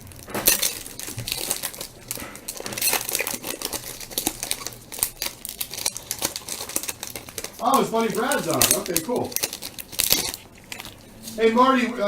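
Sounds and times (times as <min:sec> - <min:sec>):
wrapper crinkling: 0:00.0 - 0:12.0.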